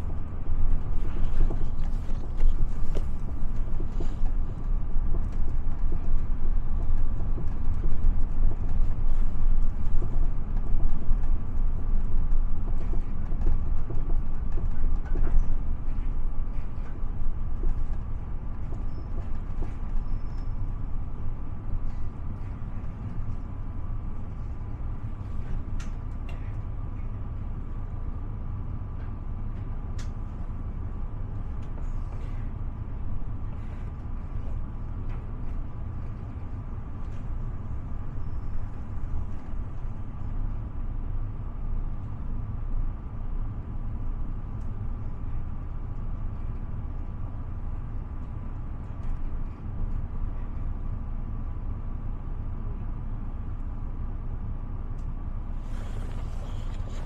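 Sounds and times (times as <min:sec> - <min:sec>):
bus rumble and road noise: 0:00.0 - 0:57.0.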